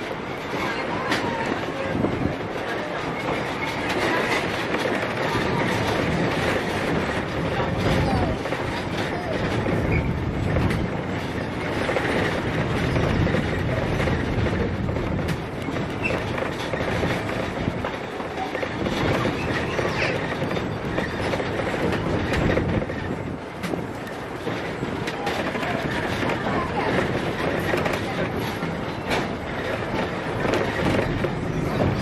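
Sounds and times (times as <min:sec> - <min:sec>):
train wheels clattering over rails: 0:00.0 - 0:32.0.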